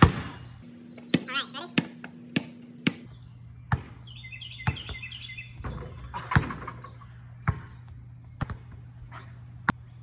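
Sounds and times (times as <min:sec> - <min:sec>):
basketball bouncing on asphalt: 0:00.0 - 0:09.0
birds chirping: 0:00.0 - 0:10.0.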